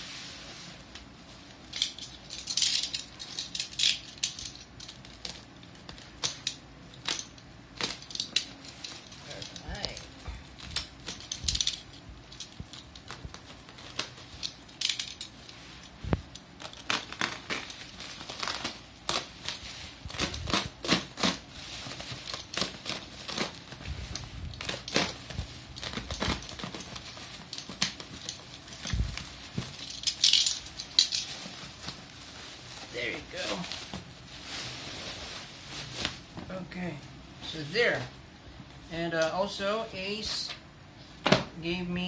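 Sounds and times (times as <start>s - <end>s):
packaging crinkling and rustling: 0.8s - 36.6s.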